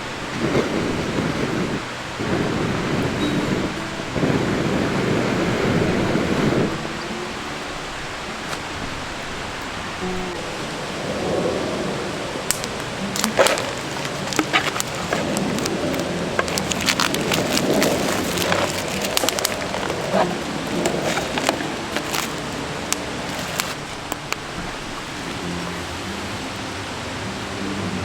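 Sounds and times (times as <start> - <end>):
campfire crackling and popping: 0.0 - 10.0, 11.6 - 25.5.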